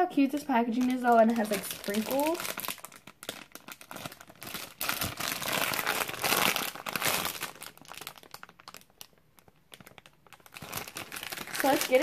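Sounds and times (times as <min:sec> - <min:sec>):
plastic bag crinkling: 0:00.2 - 0:12.0.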